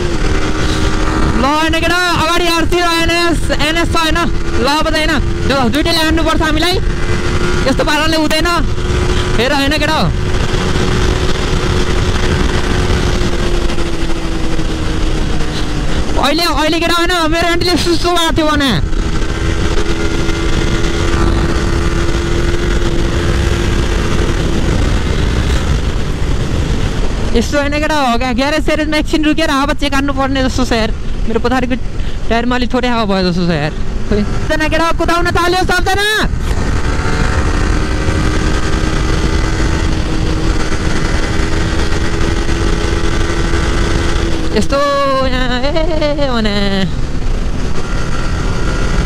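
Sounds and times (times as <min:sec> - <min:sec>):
motorcycle engine: 0:00.0 - 0:49.0
wind rush on microphone: 0:00.0 - 0:49.0.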